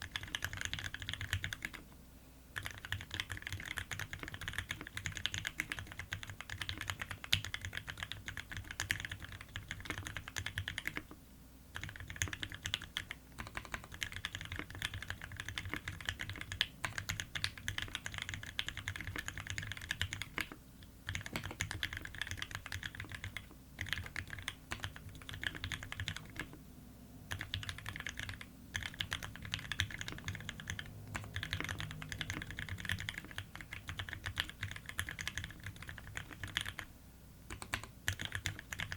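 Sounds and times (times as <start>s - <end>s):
mechanical keyboard typing clacks: 0.0s - 1.8s, 2.6s - 11.1s, 11.8s - 26.6s, 27.3s - 36.9s, 37.5s - 38.9s.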